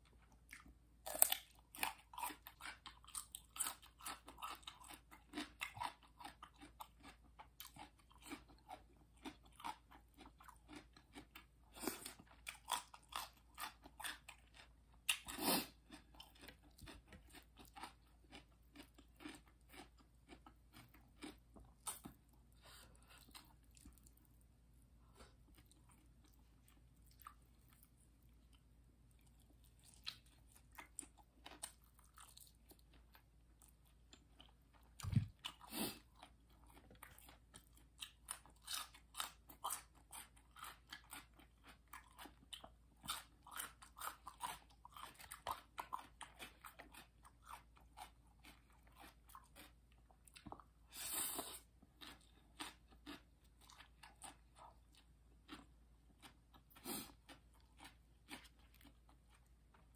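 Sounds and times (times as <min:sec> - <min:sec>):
crunching raw vegetables: 0:00.4 - 0:59.9.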